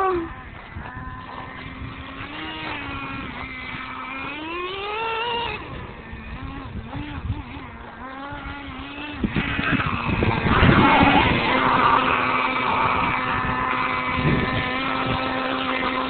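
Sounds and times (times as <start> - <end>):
small model engine buzzing: 0.0 - 16.0.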